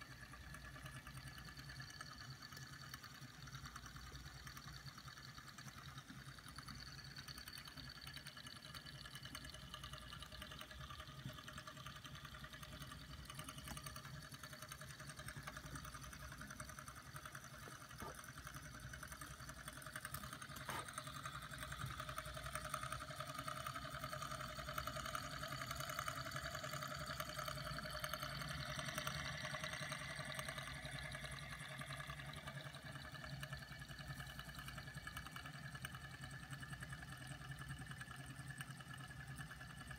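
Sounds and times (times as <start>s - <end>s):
small engines running rhythmically: 0.0s - 39.9s.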